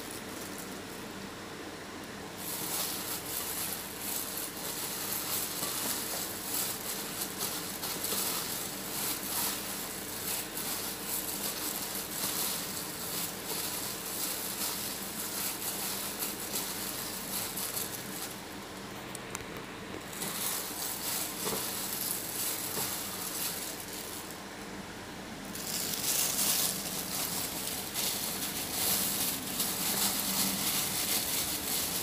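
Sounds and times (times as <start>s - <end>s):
plastic glove crinkling: 0.0s - 1.4s, 2.1s - 24.8s, 25.4s - 32.0s
faint steady hum: 0.0s - 32.0s
squishing mashed potato by hand: 2.4s - 18.8s, 19.9s - 24.4s, 25.5s - 32.0s.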